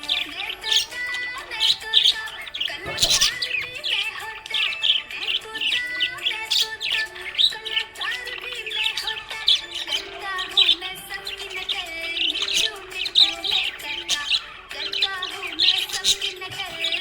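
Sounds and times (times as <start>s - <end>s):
background music: 0.0s - 17.0s
budgerigars chirping: 0.0s - 17.0s.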